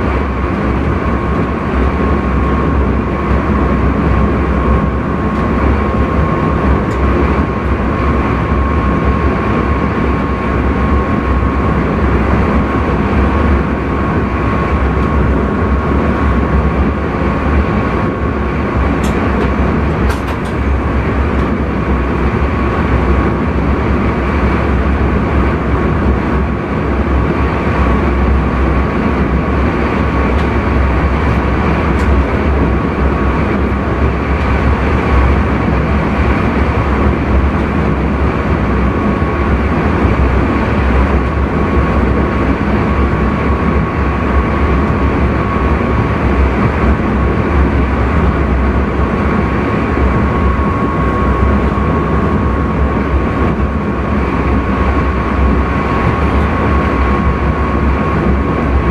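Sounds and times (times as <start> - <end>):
train running at speed: 0.0 - 58.9.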